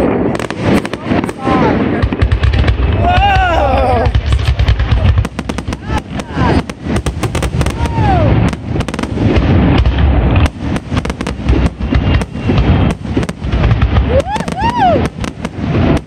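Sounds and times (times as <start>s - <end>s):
fireworks bangs and crackles: 0.0s - 16.0s
deep rumble: 1.0s - 16.0s.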